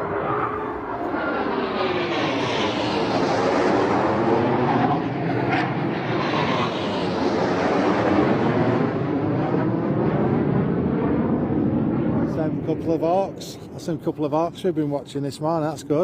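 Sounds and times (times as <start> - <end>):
jet planes flying past low: 0.0 - 16.0.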